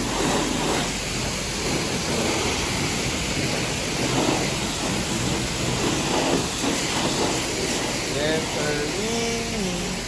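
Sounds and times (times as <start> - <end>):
spray wand jetting water: 0.0 - 10.0.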